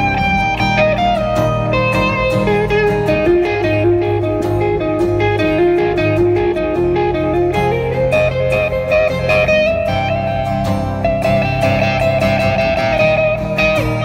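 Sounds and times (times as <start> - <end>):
electric guitar melody: 0.0 - 14.0
live rock band instrumental: 0.0 - 14.0.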